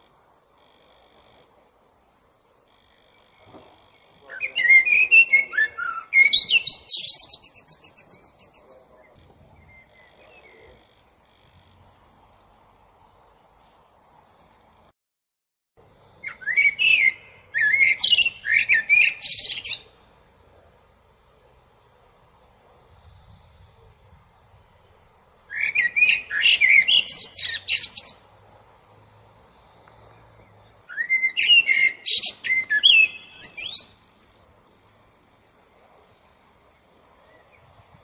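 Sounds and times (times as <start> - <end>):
blackbird singing: 2.1 - 12.6, 16.1 - 20.1, 20.7 - 28.4, 29.4 - 38.0.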